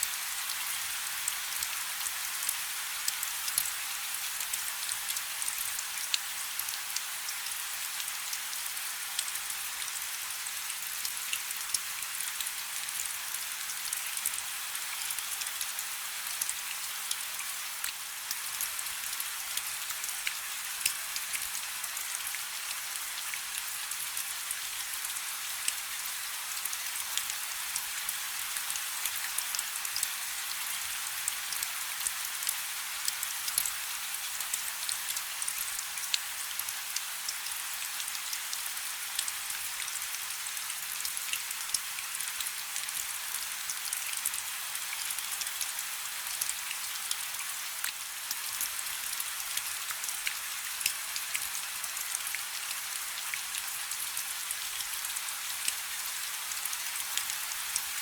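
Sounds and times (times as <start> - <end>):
rain falling on a river: 0.0 - 58.0.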